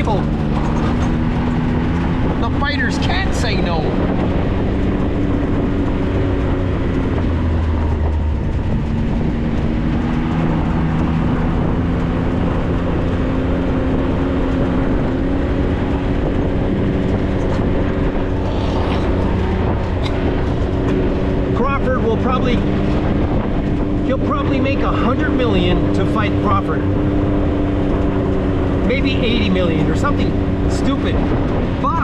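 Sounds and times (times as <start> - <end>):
drivetrain rumble: 0.0 - 32.0
vehicle engine hum: 0.0 - 32.0.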